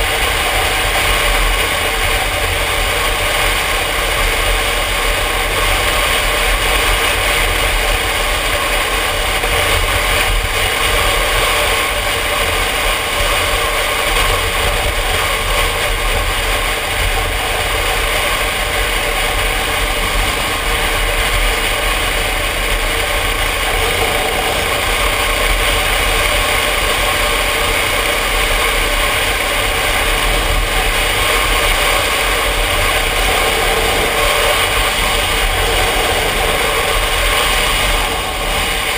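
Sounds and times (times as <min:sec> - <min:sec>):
motorcycle engine running steadily: 0:00.0 - 0:38.9
wind rushing over camera: 0:00.0 - 0:38.9.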